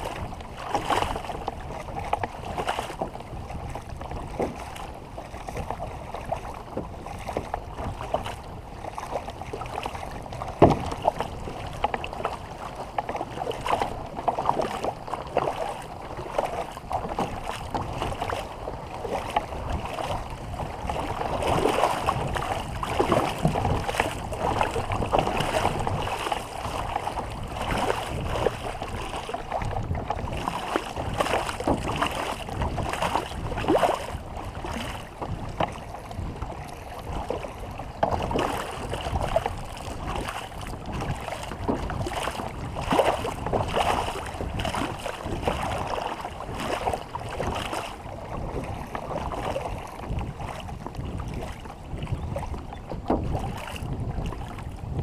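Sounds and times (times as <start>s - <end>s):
water splashing around a canoe: 0.0s - 55.0s
wind buffeting microphone: 0.0s - 55.0s.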